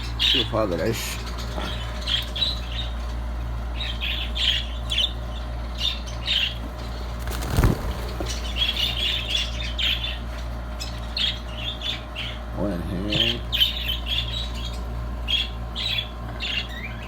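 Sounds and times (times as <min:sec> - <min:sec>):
budgerigars chattering: 0:00.0 - 0:17.0
steady low hum: 0:00.0 - 0:17.0.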